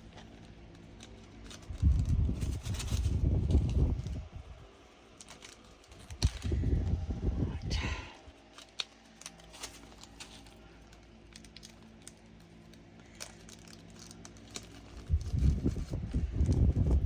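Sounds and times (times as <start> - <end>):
plastic packets crinkling: 0.0 - 7.2, 8.3 - 17.0.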